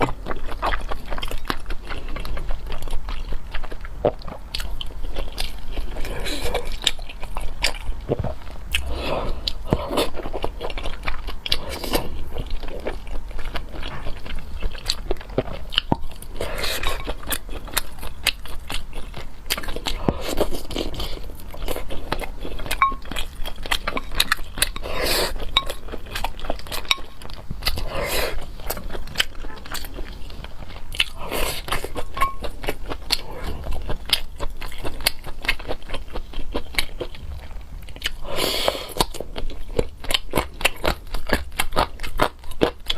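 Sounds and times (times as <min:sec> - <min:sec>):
person chewing and crunching food: 0:00.0 - 0:42.9
steady low hum: 0:00.0 - 0:42.9.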